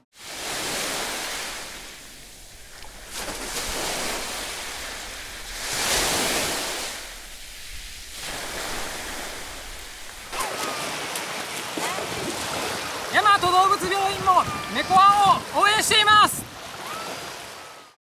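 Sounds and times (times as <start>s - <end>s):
sea waves washing onto beach: 0.1s - 18.0s.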